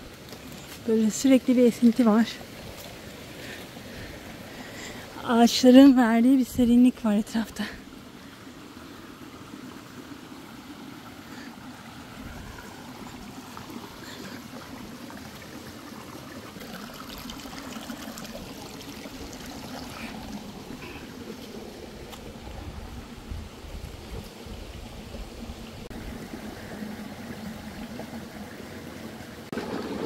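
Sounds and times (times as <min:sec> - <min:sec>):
stream rushing water: 0:00.0 - 0:30.0.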